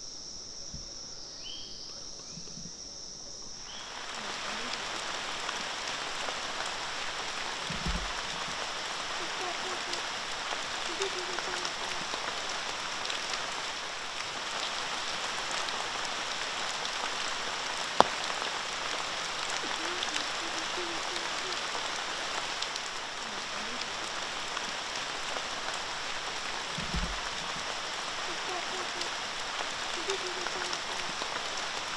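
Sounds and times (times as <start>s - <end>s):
background hiss: 0.0s - 31.9s.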